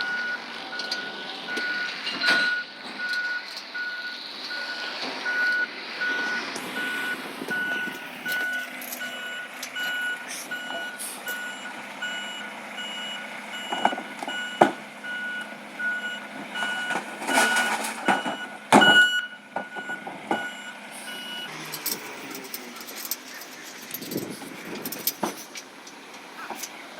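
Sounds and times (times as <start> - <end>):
truck reversing alarm beeping: 0.0 - 25.0.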